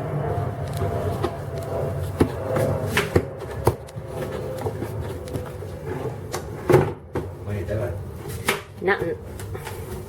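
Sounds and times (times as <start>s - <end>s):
plane passing overhead: 0.0s - 8.2s.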